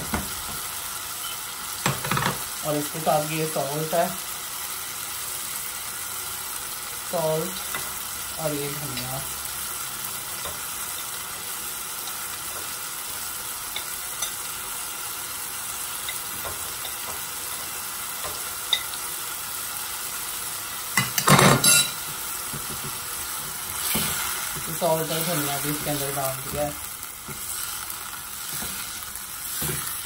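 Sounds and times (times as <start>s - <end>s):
food sizzling in a saucepan: 0.0s - 30.0s.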